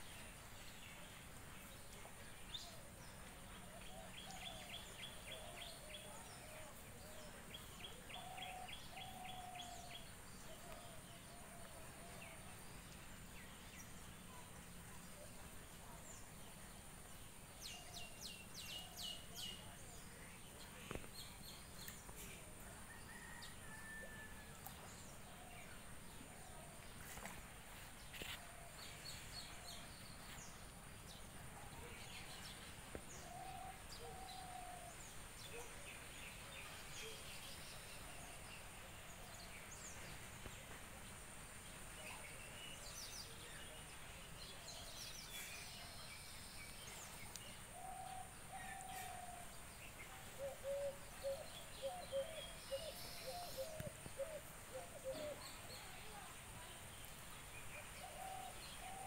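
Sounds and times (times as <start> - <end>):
steady low hiss: 0.0 - 59.0.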